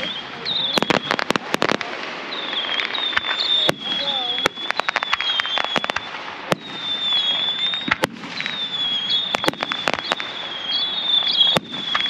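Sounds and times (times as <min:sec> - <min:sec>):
high wavering whistle: 0:00.0 - 0:01.3, 0:02.3 - 0:12.0
fireworks bangs and crackling: 0:00.0 - 0:12.0.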